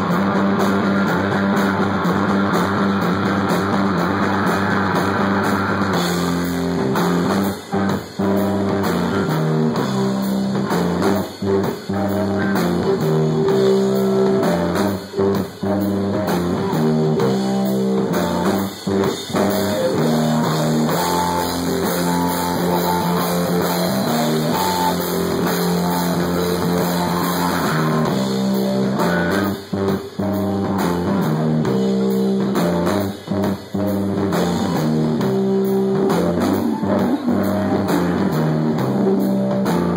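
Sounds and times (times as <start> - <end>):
metal band playing live: 0.0 - 39.9.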